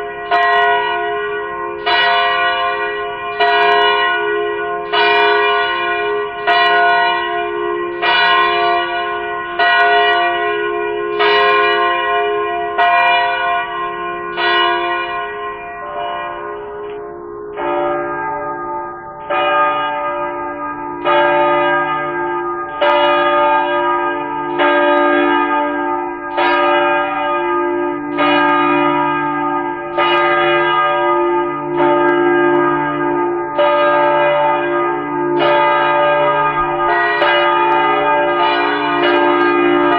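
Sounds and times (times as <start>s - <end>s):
large church bell tolling: 0.0s - 39.9s.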